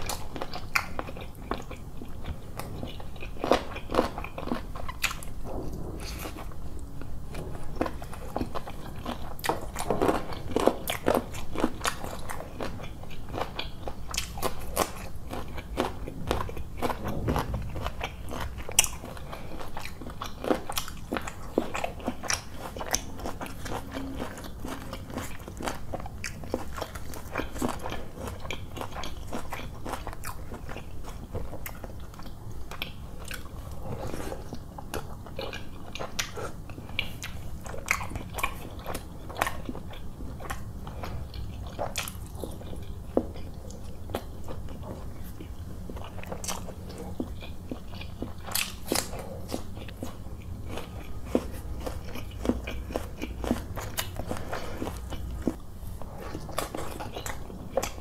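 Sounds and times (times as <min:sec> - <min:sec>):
person chewing with mouth open: 0:00.0 - 0:58.0.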